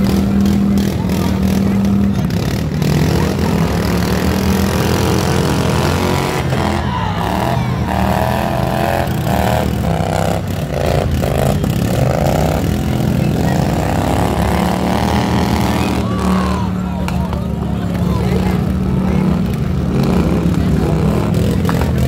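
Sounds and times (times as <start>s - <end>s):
riding lawn mower engines revving: 0.0s - 22.0s.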